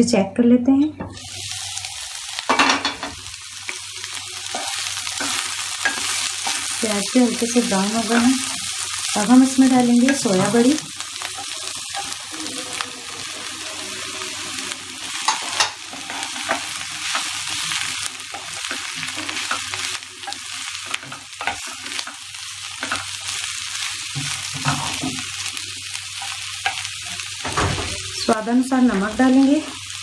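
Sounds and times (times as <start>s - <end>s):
vegetables sizzling in hot oil: 1.1s - 30.0s.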